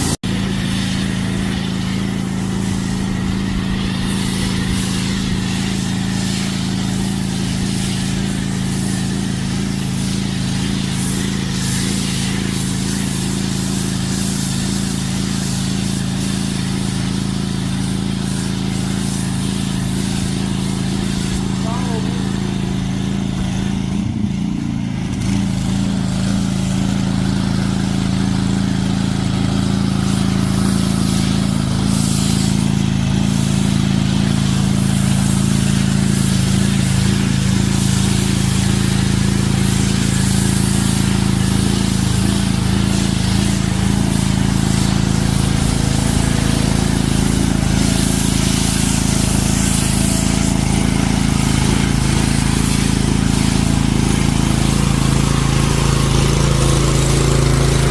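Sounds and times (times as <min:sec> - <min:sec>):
high-pressure spray hissing: 0:00.0 - 0:57.9
pressure washer engine running: 0:00.0 - 0:57.9.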